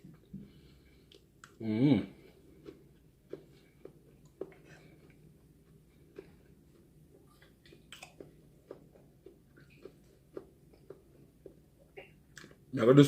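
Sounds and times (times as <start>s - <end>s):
chewing mouth clicks and smacks: 1.0s - 1.6s, 2.3s - 12.7s.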